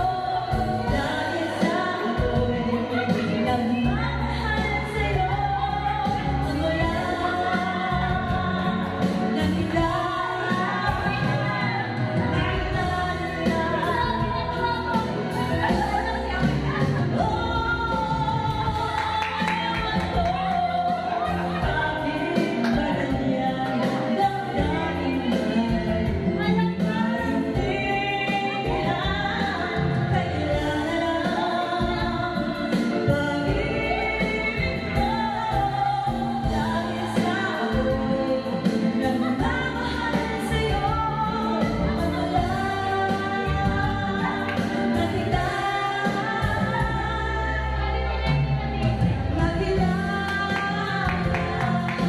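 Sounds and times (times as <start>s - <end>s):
musical accompaniment: 0.0s - 52.0s
woman singing into microphone: 0.0s - 52.0s.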